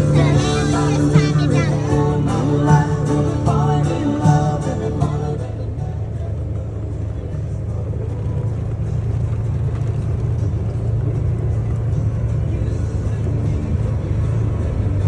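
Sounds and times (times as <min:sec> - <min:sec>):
music playing: 0:00.0 - 0:15.0
vehicle low rumble: 0:00.0 - 0:15.0.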